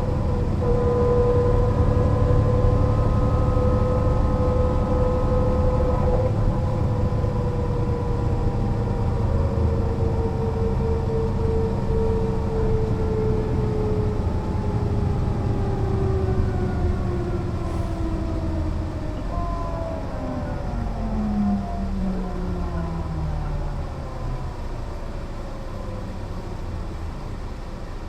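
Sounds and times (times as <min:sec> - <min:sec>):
bus rumble with driveline whine: 0:00.0 - 0:28.0.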